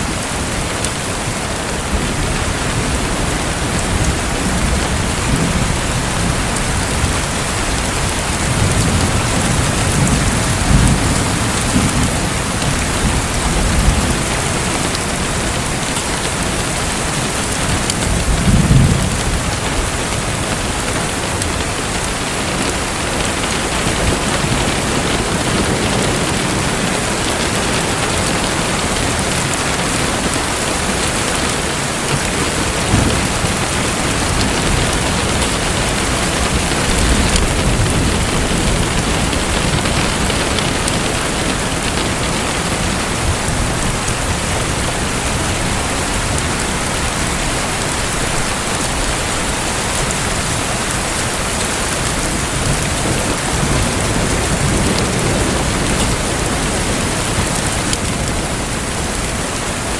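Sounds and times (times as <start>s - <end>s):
falling and splashing water: 0.0s - 59.9s.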